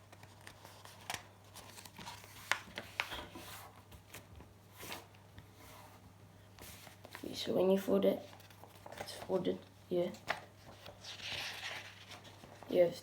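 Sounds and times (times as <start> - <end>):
paper rustling and crinkling: 0.0 - 5.9, 8.2 - 13.0.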